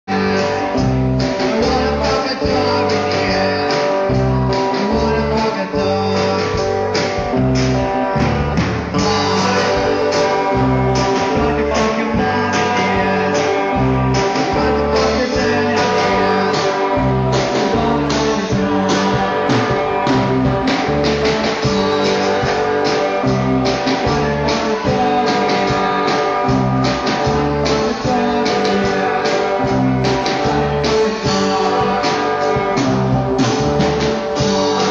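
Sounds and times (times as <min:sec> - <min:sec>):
drum kit beat: 0:00.1 - 0:34.9
guitars strummed: 0:00.1 - 0:34.9.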